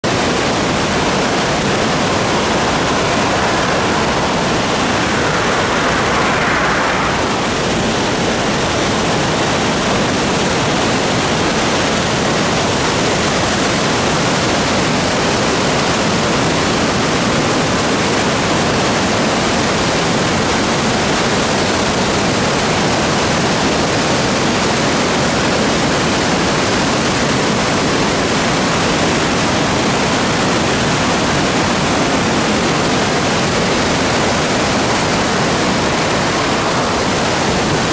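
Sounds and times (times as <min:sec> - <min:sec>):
river rushing over rapids: 0:00.0 - 0:37.9.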